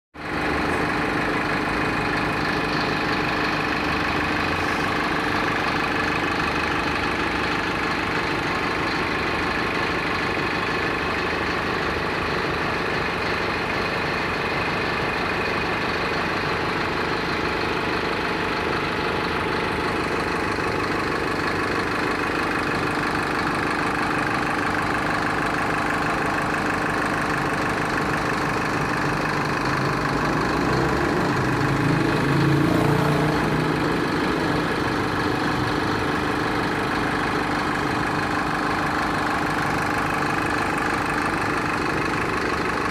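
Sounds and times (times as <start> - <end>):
diesel engine rumbling: 0.2 - 42.9.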